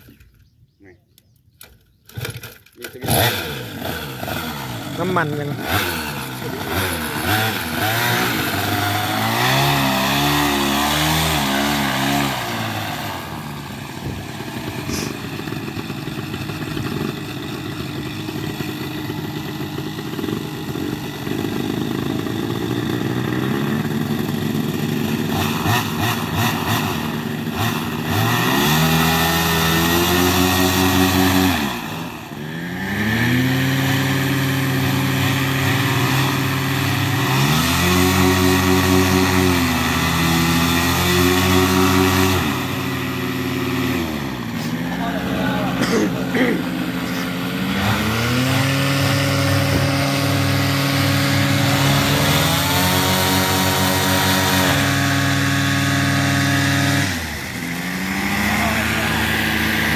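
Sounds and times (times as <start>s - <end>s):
paramotor engine running unevenly: 1.6s - 28.8s, 29.4s - 59.9s.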